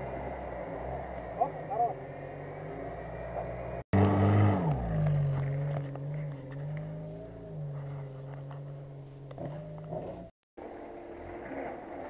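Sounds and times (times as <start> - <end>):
suv engine running: 0.0 - 12.0.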